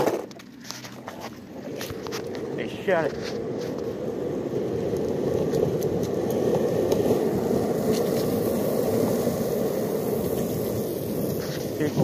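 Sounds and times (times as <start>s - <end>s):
skateboard wheels rolling on pavement: 0.0s - 12.0s.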